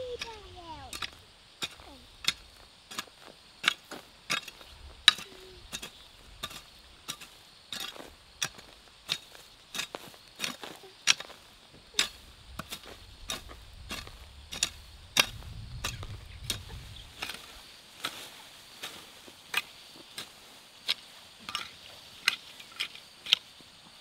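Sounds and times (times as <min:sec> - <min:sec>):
hoe striking dry soil: 0:00.0 - 0:24.0
rustling leaves: 0:00.0 - 0:24.0.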